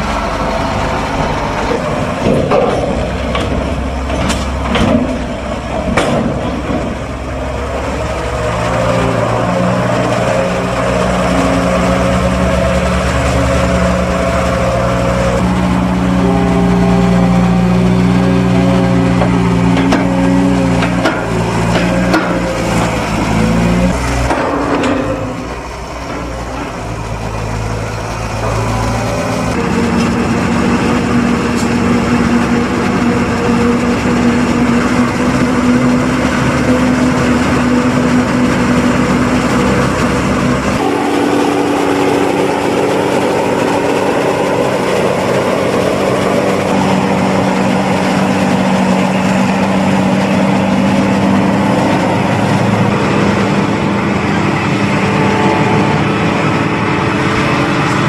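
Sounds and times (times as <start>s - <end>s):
harvester engine and chopper drone: 0.0s - 58.0s
rushing noise: 0.0s - 58.0s.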